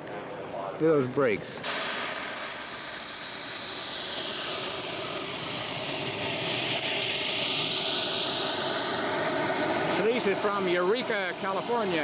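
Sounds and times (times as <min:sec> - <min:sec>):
model jet engine whine: 0:01.6 - 0:12.0.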